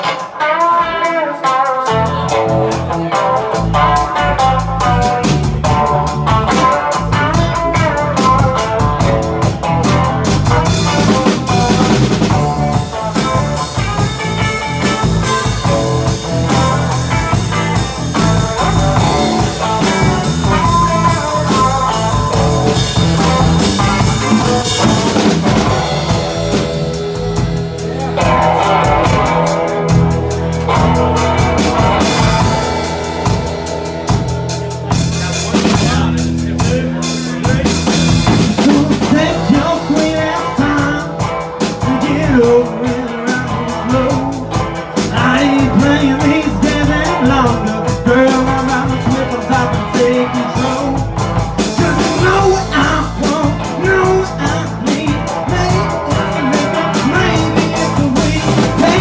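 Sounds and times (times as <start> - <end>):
drum kit: 0.0 - 59.0
electric guitar: 0.0 - 59.0.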